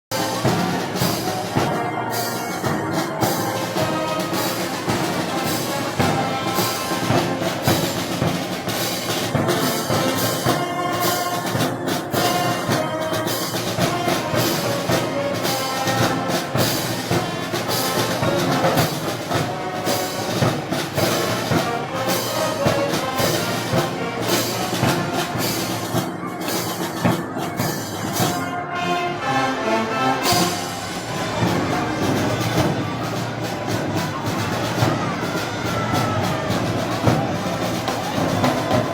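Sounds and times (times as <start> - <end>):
wind band with brass and percussion: 0.0 - 38.9.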